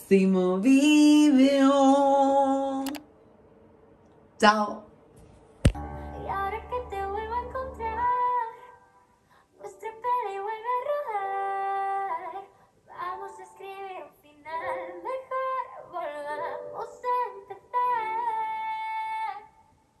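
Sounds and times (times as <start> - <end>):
woman singing slow melody: 0.0 - 3.0, 6.0 - 19.6.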